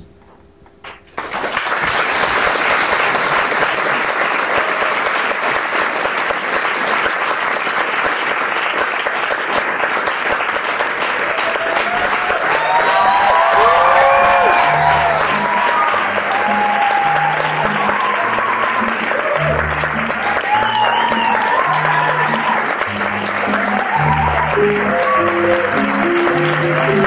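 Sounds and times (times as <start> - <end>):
audience applauding: 1.1 - 27.0.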